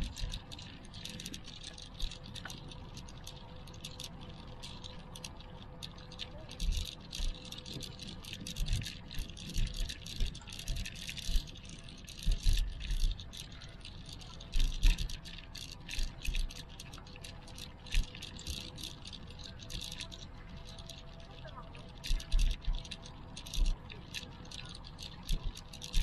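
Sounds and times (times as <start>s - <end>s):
clicking and rattling: 0.0s - 26.0s.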